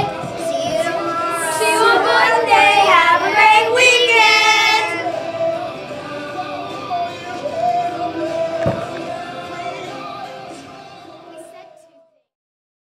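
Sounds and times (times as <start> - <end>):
children singing: 0.0 - 11.6.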